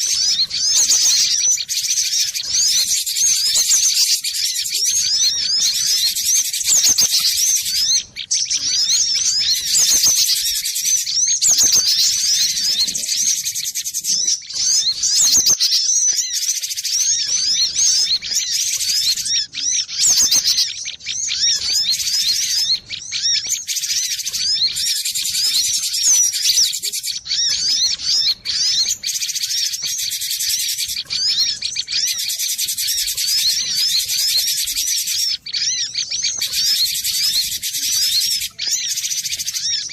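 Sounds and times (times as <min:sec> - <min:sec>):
bird chirping and whistling: 0:00.0 - 0:39.9.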